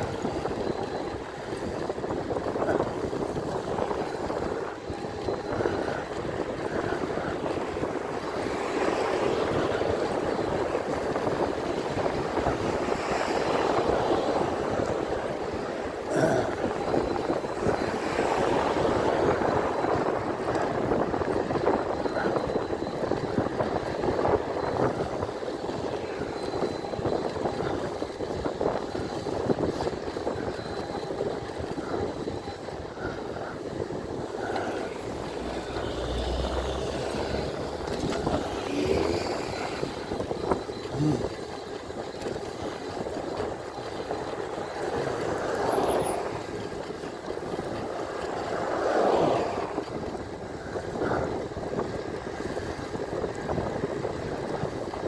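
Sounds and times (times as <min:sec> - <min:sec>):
bike tyre noise on road: 0:00.0 - 0:55.0
passing traffic: 0:00.0 - 0:55.0.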